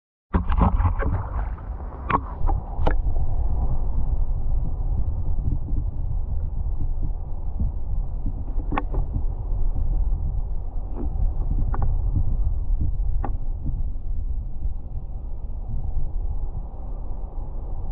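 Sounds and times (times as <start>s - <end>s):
muffled underwater rumble: 0.3s - 17.9s.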